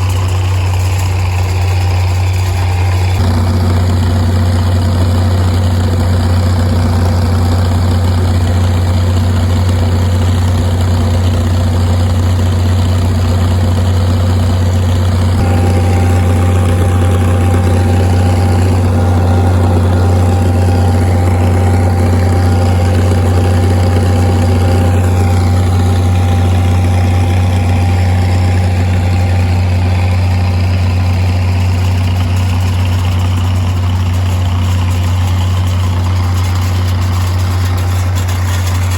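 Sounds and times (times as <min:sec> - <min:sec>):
faint steady whine: 0:00.0 - 0:38.9
tractor diesel engine running: 0:00.0 - 0:38.9.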